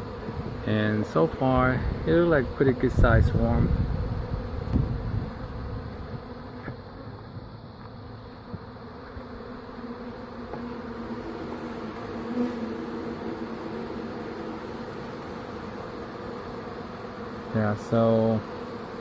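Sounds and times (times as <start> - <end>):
honeybee swarm buzzing: 0.0 - 19.0.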